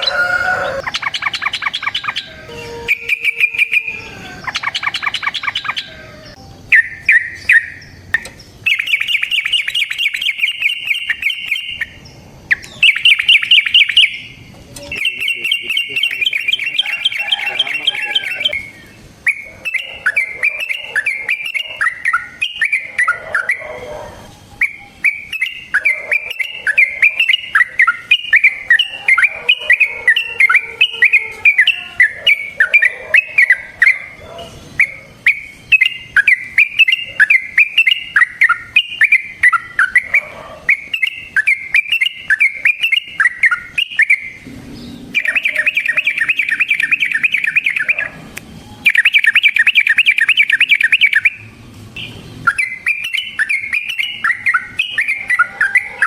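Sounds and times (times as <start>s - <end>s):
bird singing bubbly chattering notes: 0.8s - 23.7s, 24.6s - 34.0s, 34.8s - 40.1s, 40.7s - 48.1s, 48.8s - 55.9s.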